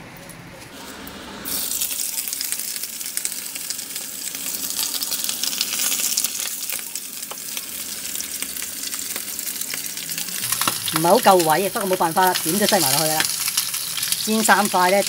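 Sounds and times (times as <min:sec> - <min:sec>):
fish sizzling in hot oil: 0:00.8 - 0:15.0.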